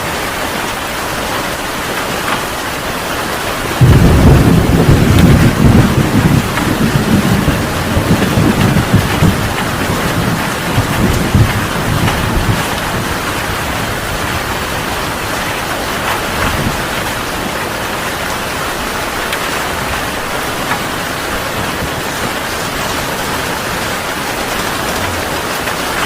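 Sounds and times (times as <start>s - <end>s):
heavy rain falling: 0.0s - 26.0s
thunder rumble: 3.6s - 26.0s.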